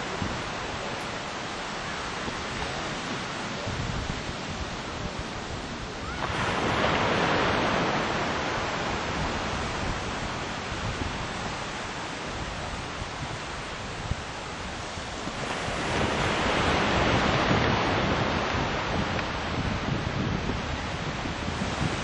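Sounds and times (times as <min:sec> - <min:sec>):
ocean waves crashing on beach: 0:00.0 - 0:22.0.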